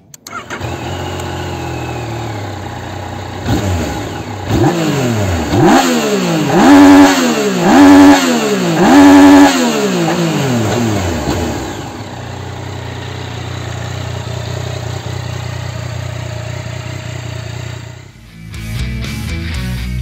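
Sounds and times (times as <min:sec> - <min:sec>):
motorcycle engine revving and idling: 0:00.0 - 0:18.2.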